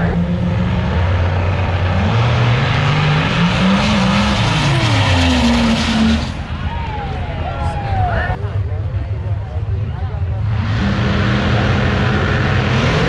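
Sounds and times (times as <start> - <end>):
drag car engines accelerating: 0.0 - 13.0.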